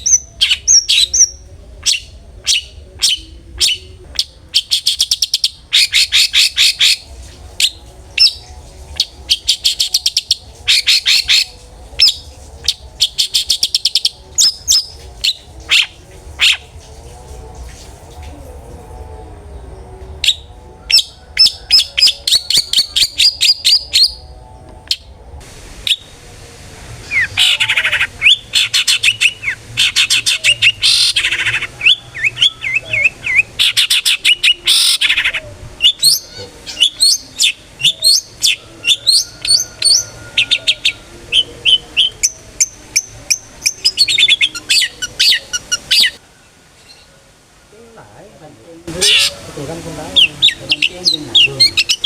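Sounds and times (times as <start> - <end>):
shrike singing trills: 0.0 - 26.2, 27.0 - 46.2, 48.9 - 52.0.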